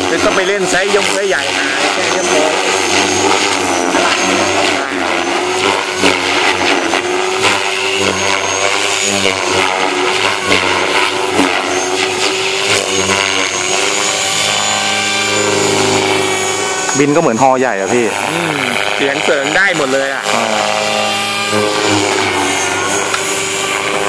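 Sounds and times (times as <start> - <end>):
rc helicopter rotor whine: 0.0 - 24.0.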